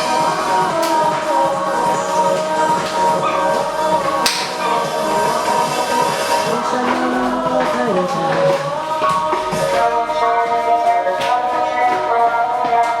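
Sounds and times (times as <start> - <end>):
song with singing: 0.0 - 13.0.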